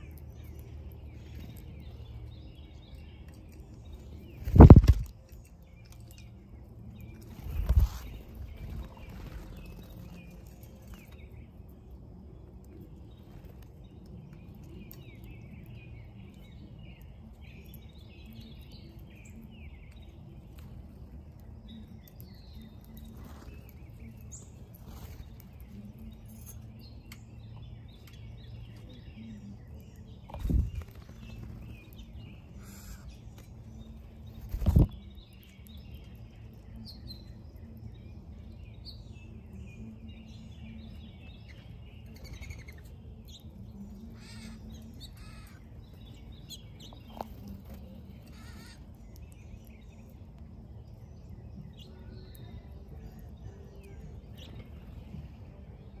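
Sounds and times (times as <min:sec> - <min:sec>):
wild birds chirping: 0:00.0 - 0:56.0.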